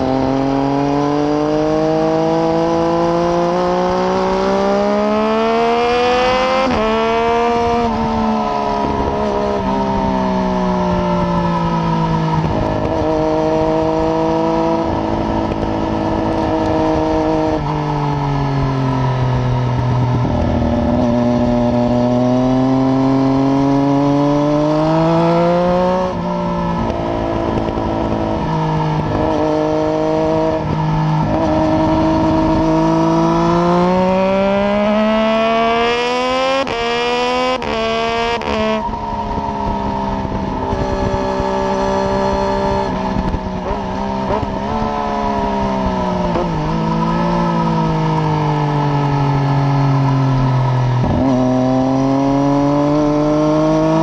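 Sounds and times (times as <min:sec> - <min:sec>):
motorcycle engine revving: 0:00.0 - 0:54.0
motorcycle shifting up gears: 0:00.0 - 0:54.0.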